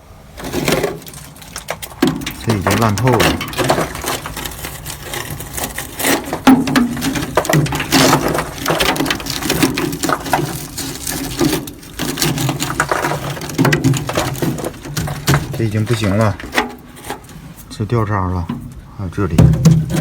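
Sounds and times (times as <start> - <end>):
rusted sheet metal crunching: 0.3 - 20.0.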